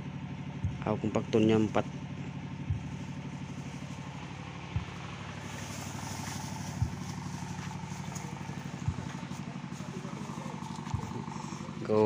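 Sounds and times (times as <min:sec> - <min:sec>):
diesel engine running: 0:00.0 - 0:12.0
short low thumps: 0:00.5 - 0:11.8.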